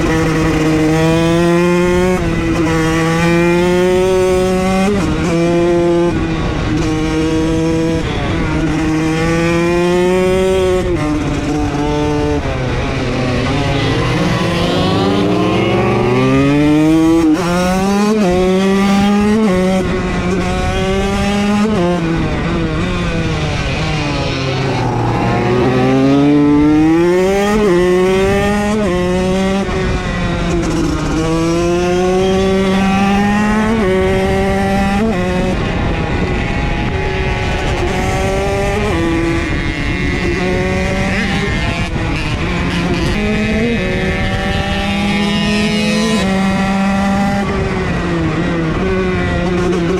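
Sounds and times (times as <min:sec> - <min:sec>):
motocross bike accelerating: 0:00.0 - 0:08.0, 0:08.7 - 0:49.9.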